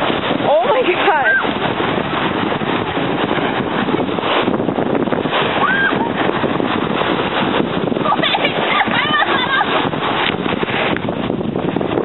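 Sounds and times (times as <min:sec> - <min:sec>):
waves washing onto pebbles: 0:00.0 - 0:12.0
wind buffeting microphone: 0:00.0 - 0:12.0.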